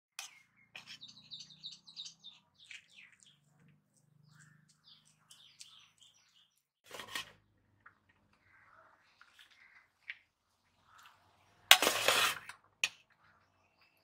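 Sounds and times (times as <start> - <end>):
small birds chirping: 0.2 - 6.8, 7.8 - 11.7, 13.0 - 14.0.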